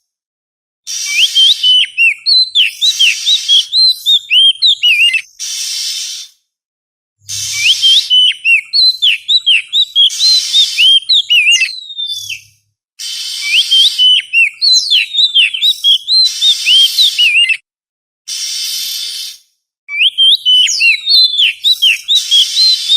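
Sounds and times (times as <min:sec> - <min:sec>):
bird whistling song: 0:00.9 - 0:06.4, 0:07.3 - 0:17.6, 0:18.3 - 0:22.9.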